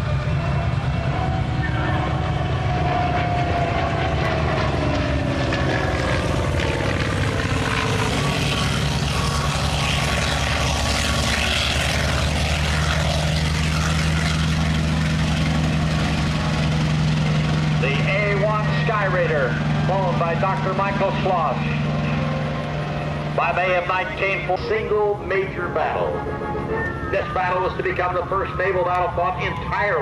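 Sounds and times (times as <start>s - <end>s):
propeller plane engine fly-by: 0.0s - 30.0s.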